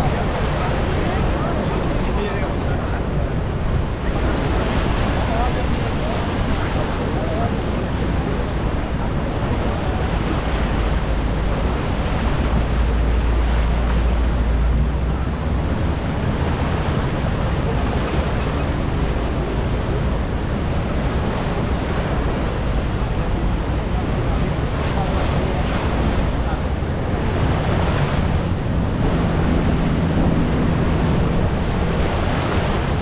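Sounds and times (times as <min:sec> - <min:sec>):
waterfall roaring: 0:00.0 - 0:33.0
wind buffeting the microphone: 0:00.0 - 0:33.0.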